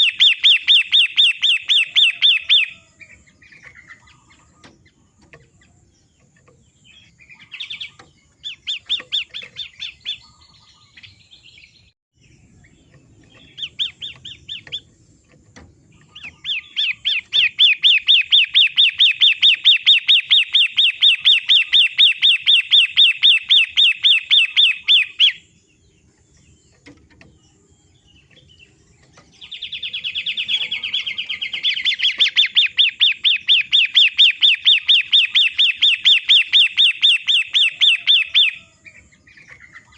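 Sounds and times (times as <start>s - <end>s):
bird repeated chirping: 0.0s - 39.9s.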